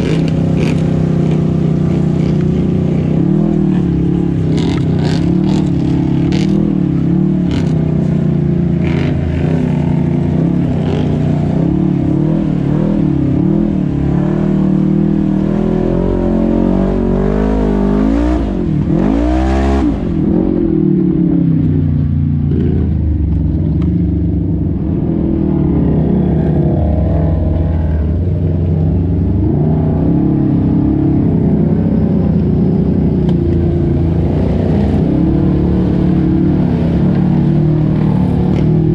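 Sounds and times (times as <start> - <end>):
engines running and revving: 0.0 - 38.9.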